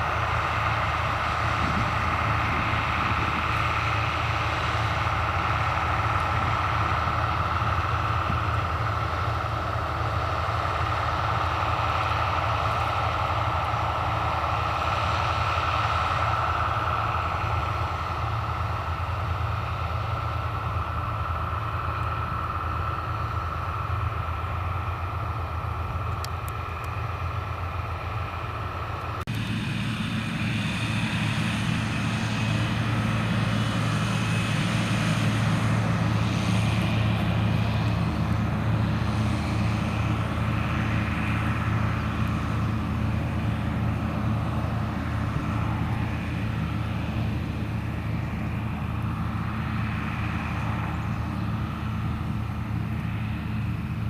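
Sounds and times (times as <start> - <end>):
harvester engine drone: 0.0 - 54.0
steady high whine: 0.0 - 54.0.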